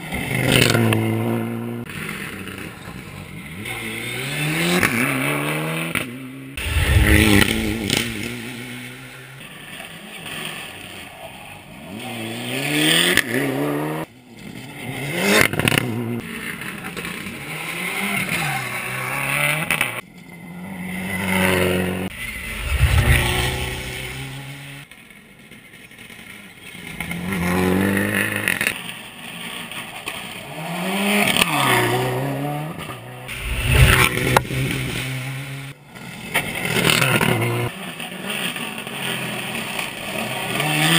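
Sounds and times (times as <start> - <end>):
rally car engines revving: 0.0 - 25.0, 26.0 - 40.9.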